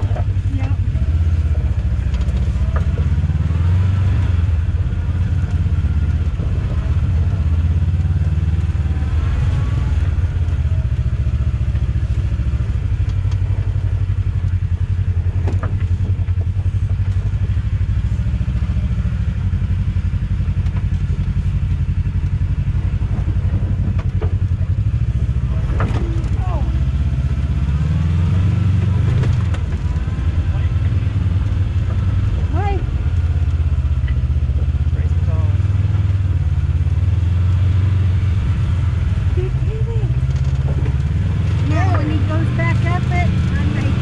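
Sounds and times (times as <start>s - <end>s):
utility vehicle engine running: 0.0s - 44.0s.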